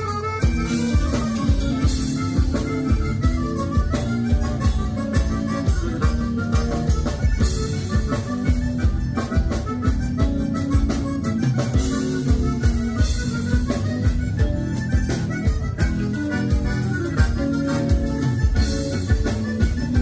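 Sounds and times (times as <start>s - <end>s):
accordion dance-band music: 0.0s - 20.0s
steady drum beat: 0.0s - 20.0s.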